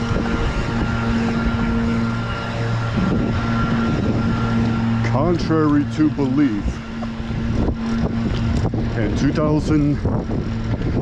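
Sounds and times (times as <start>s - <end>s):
bike riding noise: 0.0s - 11.0s.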